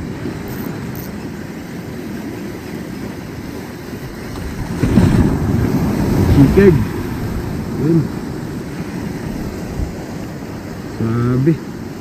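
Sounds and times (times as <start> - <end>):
sea waves washing ashore: 0.0 - 12.0
wind buffeting microphone: 0.0 - 12.0.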